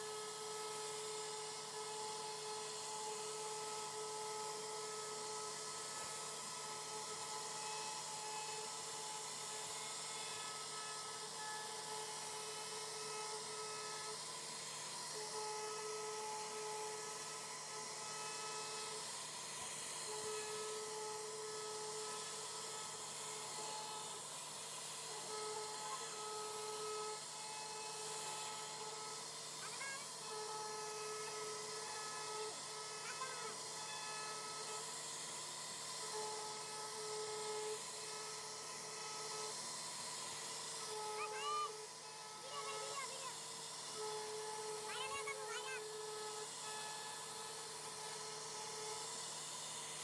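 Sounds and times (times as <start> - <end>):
cnc router carving wood: 0.0 - 50.0
machine whining tone: 0.0 - 50.0.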